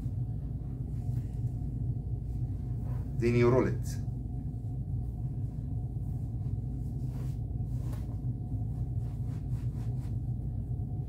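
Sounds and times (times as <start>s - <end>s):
towel rustling: 0.0s - 10.9s
low room tone hum: 0.0s - 11.0s.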